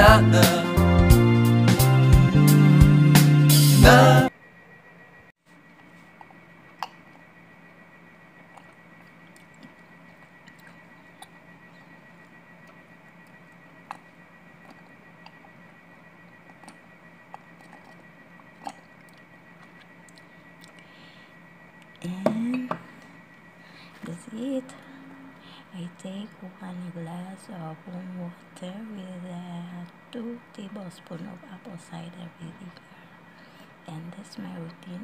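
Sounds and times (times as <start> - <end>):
low room hum: 3.8 - 35.0.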